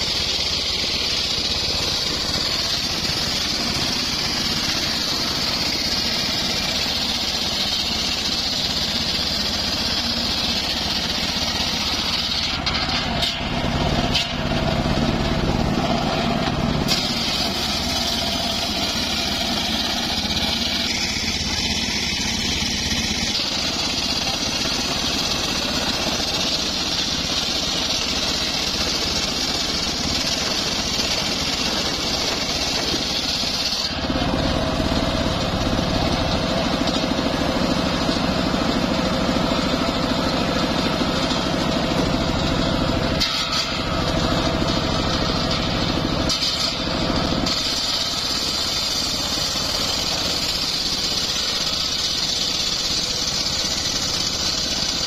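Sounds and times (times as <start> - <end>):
engine whine: 0.0 - 55.0
sawmill blade cutting log: 0.0 - 55.0.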